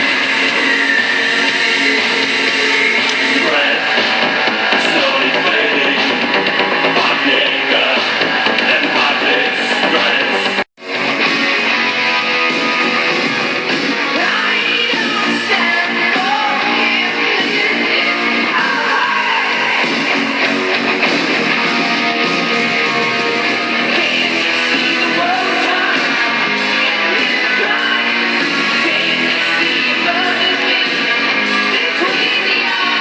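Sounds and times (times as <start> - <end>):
song with guitar and singing: 0.0 - 33.0.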